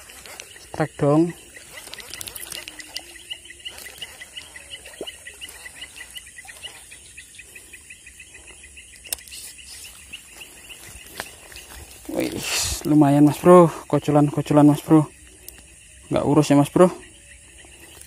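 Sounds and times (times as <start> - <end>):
insect hiss: 0.0 - 18.0.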